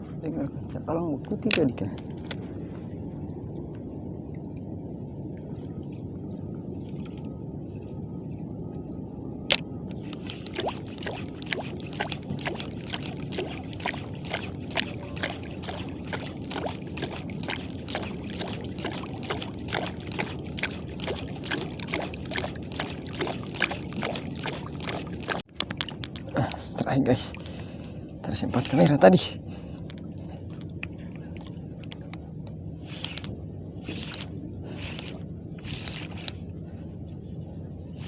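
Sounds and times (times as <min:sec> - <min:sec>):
water rumbling against boat: 0:00.0 - 0:38.0.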